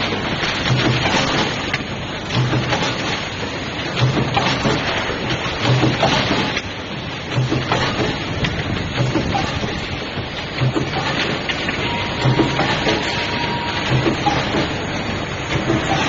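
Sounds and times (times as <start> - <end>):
forging machine clattering hiss: 0.0 - 16.0.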